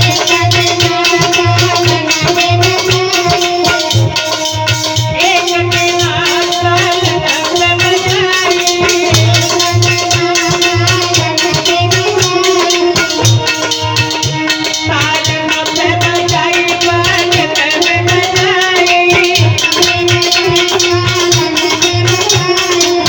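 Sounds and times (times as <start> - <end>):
hand drum rhythm: 0.0 - 23.0
rattle-like percussion clicking: 0.0 - 23.0.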